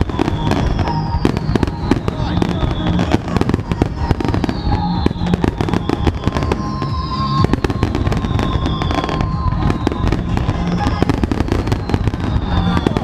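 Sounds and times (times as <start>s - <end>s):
fireworks bangs and crackles: 0.0s - 13.0s
fireworks whistles falling in pitch: 0.0s - 13.0s.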